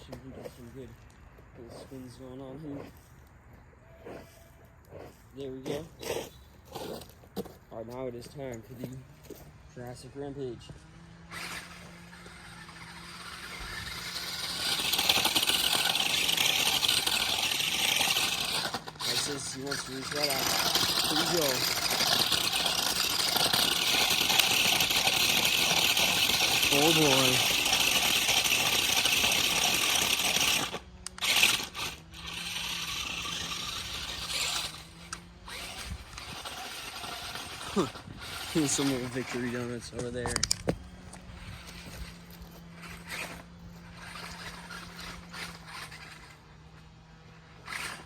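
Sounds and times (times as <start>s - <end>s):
toy truck motor: 0.0s - 7.6s, 8.2s - 48.0s
tyres spinning on dirt: 3.8s - 48.0s.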